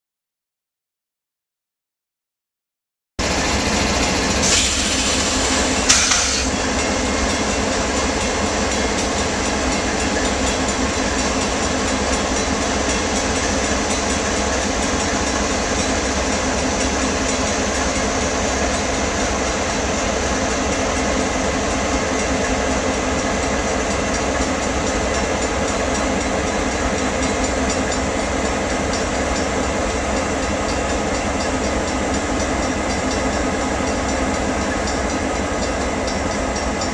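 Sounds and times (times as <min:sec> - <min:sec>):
diesel locomotive engine running: 0:03.2 - 0:36.9.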